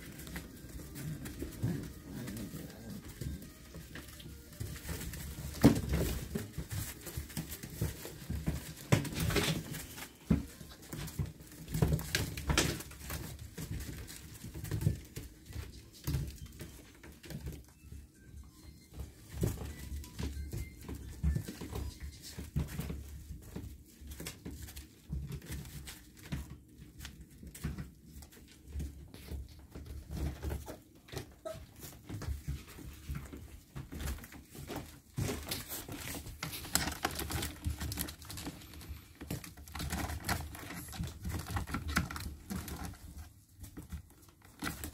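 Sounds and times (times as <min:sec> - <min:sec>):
bedding rustling: 0:00.0 - 0:44.9
paws scratching on plastic: 0:00.0 - 0:44.9.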